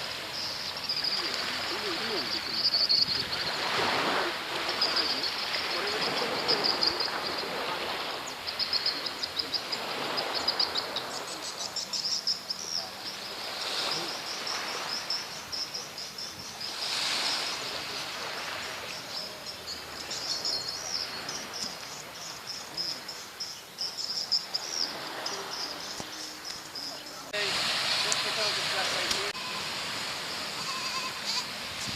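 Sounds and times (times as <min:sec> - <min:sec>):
insects trilling: 0:00.0 - 0:31.9
rushing outdoor noise: 0:00.0 - 0:31.9.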